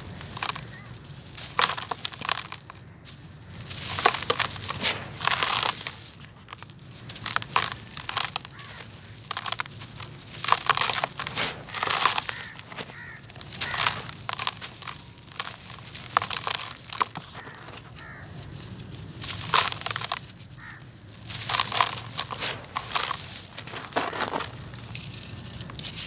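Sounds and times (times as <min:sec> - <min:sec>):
dry dirt crunching: 0:00.0 - 0:26.0
grit trickling: 0:00.0 - 0:26.0.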